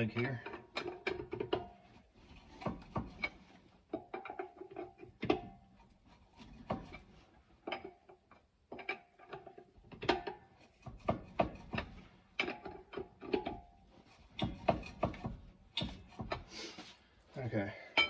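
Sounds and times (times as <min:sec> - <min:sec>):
tire iron rattling on lug nuts: 0:00.0 - 0:05.9, 0:06.5 - 0:16.5.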